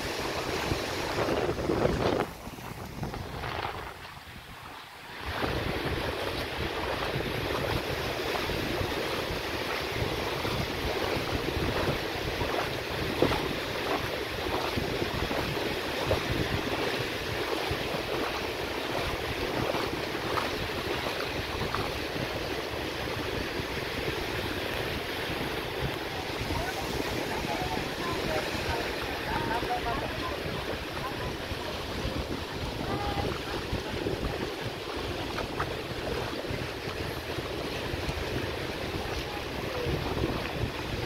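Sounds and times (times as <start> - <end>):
surf washing onto beach: 0.0 - 41.0
wind buffeting microphone: 0.0 - 41.0.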